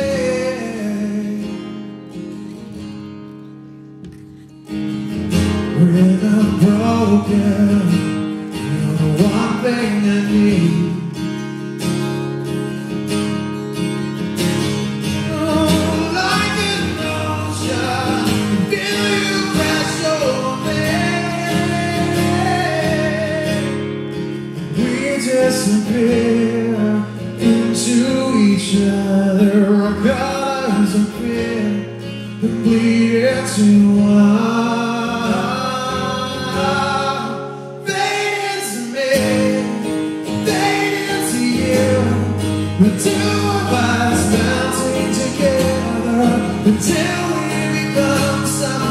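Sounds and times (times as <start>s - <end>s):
man singing: 0.0s - 1.8s, 5.6s - 11.2s, 15.2s - 23.9s, 24.6s - 48.9s
strummed acoustic guitar: 0.0s - 48.9s.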